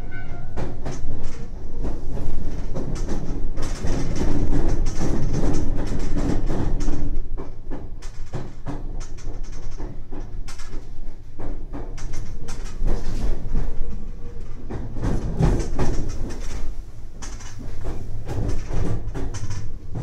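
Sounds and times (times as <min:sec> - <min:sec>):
train low rumble: 0:00.0 - 0:20.0
wheels clacking over rail joints: 0:00.0 - 0:20.0.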